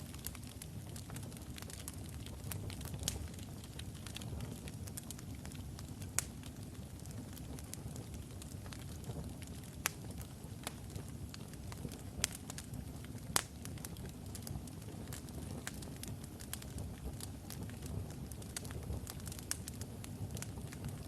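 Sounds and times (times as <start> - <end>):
low rumble of fire: 0.0 - 21.0
wood crackles and pops: 0.0 - 21.0.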